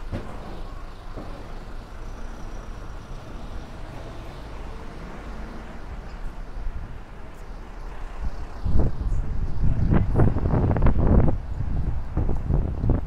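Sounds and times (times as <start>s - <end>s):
urban background rumble and hiss: 0.0s - 13.0s.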